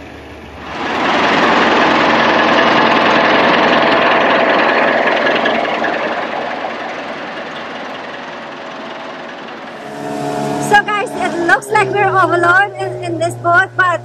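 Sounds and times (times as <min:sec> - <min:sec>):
engine running with knocking rattle: 0:00.0 - 0:14.0.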